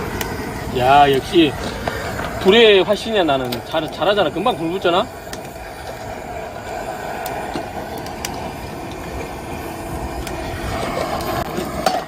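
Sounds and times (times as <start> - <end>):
campfire burning: 0.0 - 12.0
fire crackles: 0.0 - 12.0.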